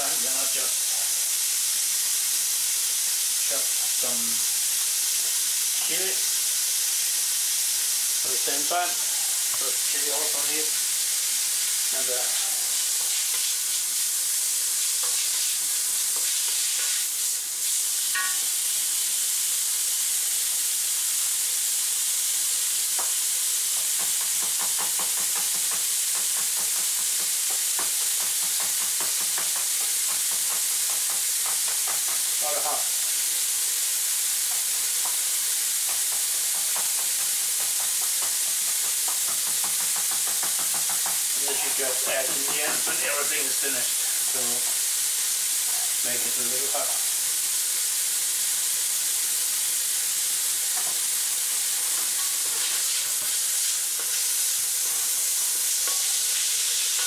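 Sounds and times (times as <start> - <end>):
meat sizzling in a wok: 0.0 - 57.0.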